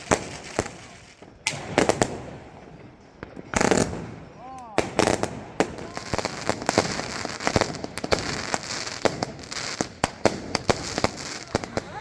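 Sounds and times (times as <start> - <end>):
firework bangs: 0.0 - 12.0.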